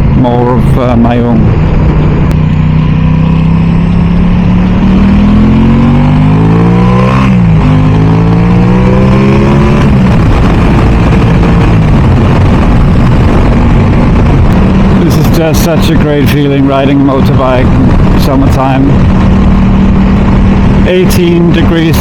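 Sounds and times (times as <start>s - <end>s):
motorcycle engine accelerating: 0.0s - 22.0s
wind on microphone: 0.0s - 22.0s.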